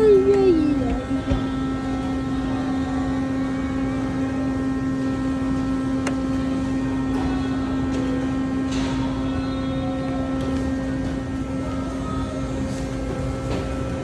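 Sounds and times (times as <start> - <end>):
refrigerated display case humming: 0.0 - 14.0.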